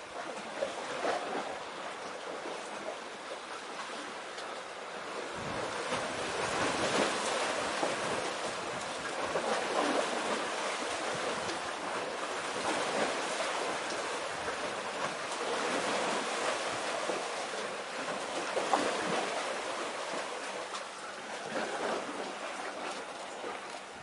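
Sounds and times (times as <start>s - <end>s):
sea waves and surf: 0.0s - 24.0s.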